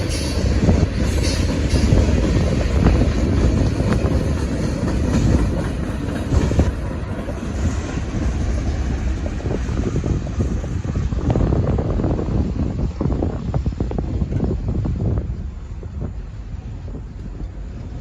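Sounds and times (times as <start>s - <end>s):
train wheels rumbling on rails: 0.0s - 18.0s
wind buffeting microphone: 0.0s - 18.0s.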